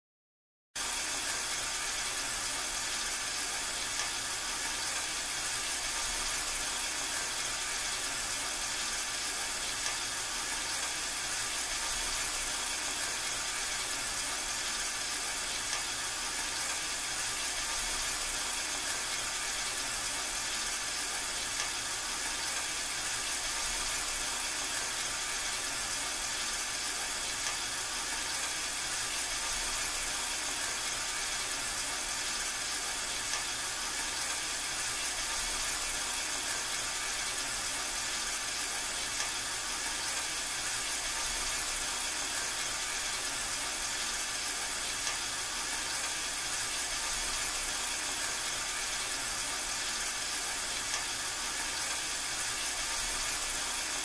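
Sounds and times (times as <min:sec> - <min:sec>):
steady rain hiss: 0:00.8 - 0:54.0.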